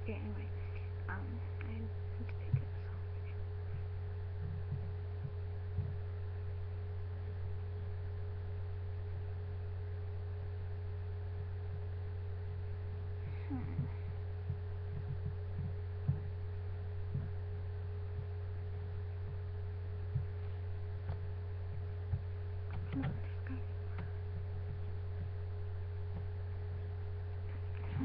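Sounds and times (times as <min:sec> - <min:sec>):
faint steady tone: 0:00.0 - 0:28.0
low electrical hum: 0:00.0 - 0:28.0.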